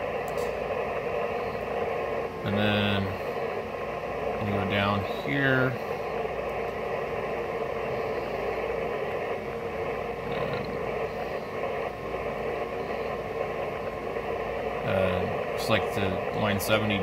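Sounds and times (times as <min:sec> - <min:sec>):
radio receiver hiss: 0:00.0 - 0:17.0.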